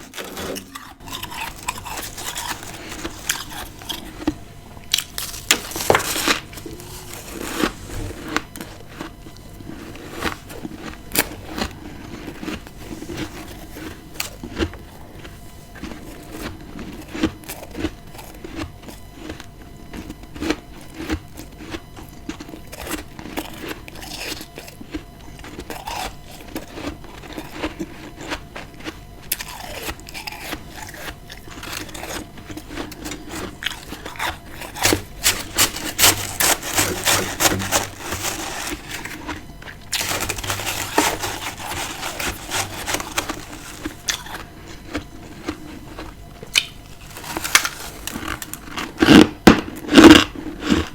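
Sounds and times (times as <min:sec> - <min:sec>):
person crunching frost: 0:00.0 - 0:50.9.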